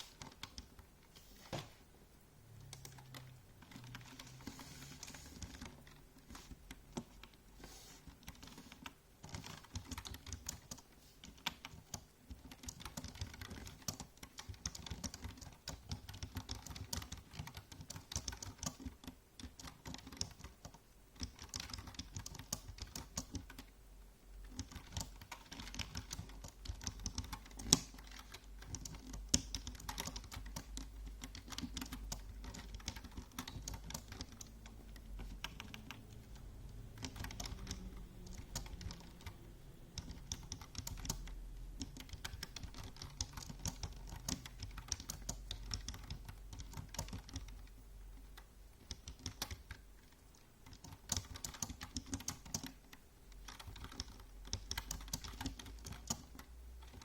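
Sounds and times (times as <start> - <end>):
computer keyboard typing: 0.0 - 0.9, 2.6 - 7.4, 8.0 - 23.7, 24.4 - 57.0.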